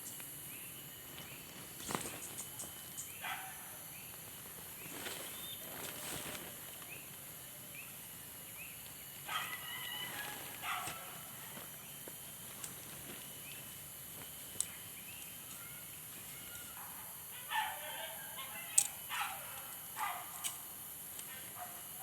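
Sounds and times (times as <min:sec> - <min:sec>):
steady hiss: 0:00.0 - 0:17.7.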